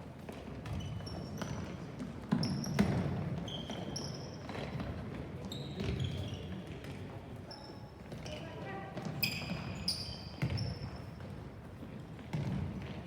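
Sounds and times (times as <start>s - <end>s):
shoes squeaking on court floor: 0.2s - 8.4s, 9.0s - 11.4s.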